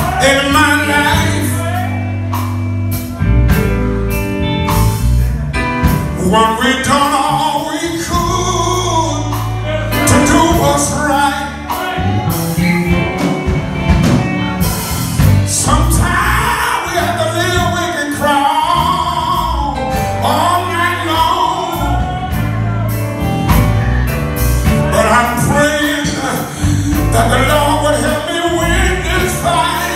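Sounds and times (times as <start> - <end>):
man singing: 0.0 - 3.6, 5.8 - 13.3, 15.4 - 23.4, 24.6 - 29.9
drums: 0.0 - 29.9
electric bass guitar: 0.0 - 29.9.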